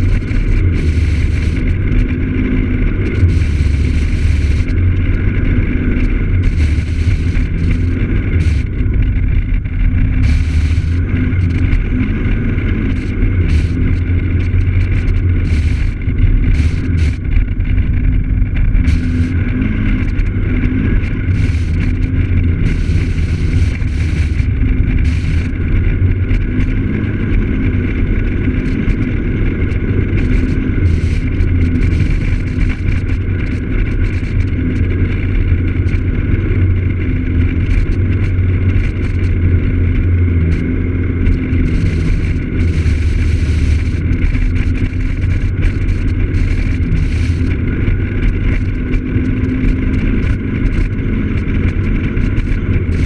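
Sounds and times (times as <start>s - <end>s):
wind and road hiss: 0.0s - 2.0s, 2.6s - 17.8s, 18.8s - 48.6s
scooter engine cruising: 0.0s - 53.0s.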